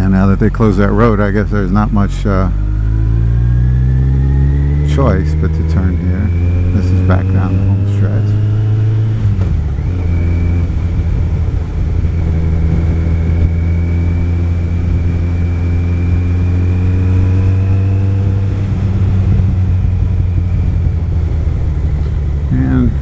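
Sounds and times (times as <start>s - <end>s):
motorcycle engine cruising: 0.0s - 23.0s.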